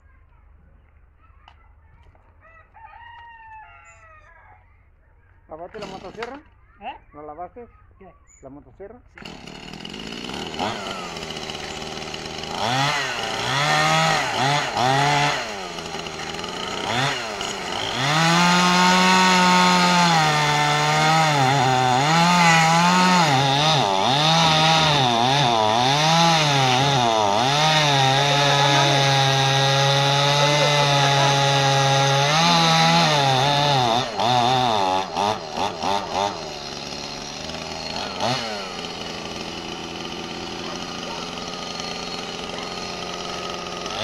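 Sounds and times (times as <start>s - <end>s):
chainsaw cutting wood: 5.6s - 6.6s, 9.1s - 44.0s.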